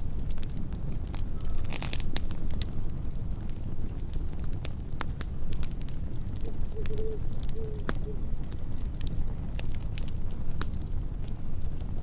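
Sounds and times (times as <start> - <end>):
cricket chirping: 0.0 - 5.6, 6.3 - 9.6, 10.2 - 10.6, 11.2 - 11.9
campfire crackling: 0.0 - 12.0.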